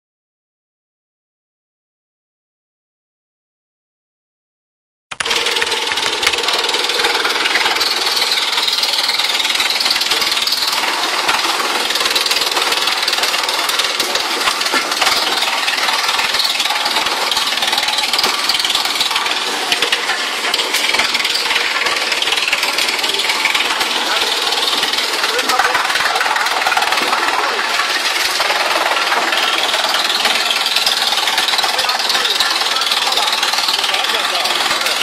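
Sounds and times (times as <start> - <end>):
wood chipper grinding branches: 5.1 - 35.0.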